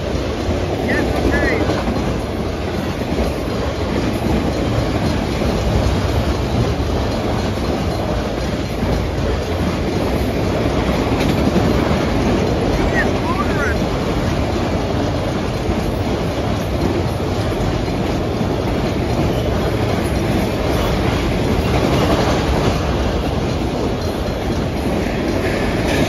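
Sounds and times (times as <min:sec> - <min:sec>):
train wheels rumbling and clacking: 0:00.0 - 0:26.0.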